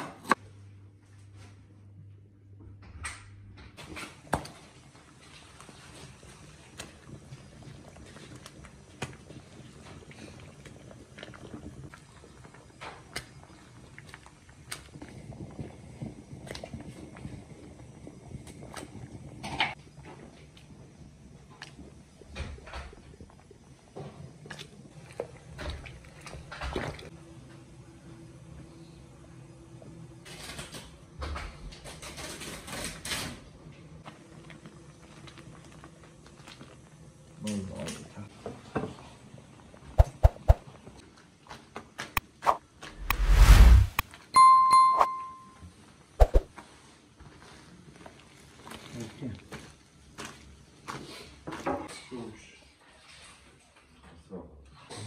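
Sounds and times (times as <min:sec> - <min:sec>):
broth boiling and bubbling: 0:03.6 - 0:44.0, 0:46.0 - 0:51.8.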